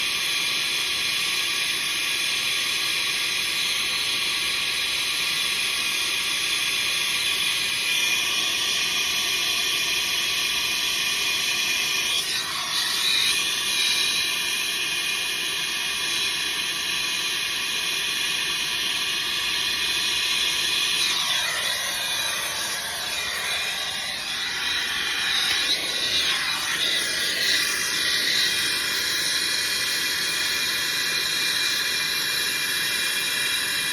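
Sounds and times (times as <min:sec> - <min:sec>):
torch flame hissing: 0:00.2 - 0:33.9.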